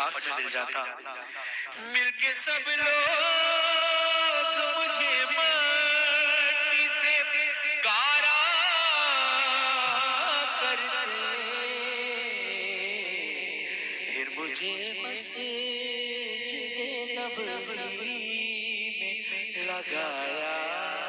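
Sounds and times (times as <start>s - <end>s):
man singing through a microphone: 0.0s - 21.0s.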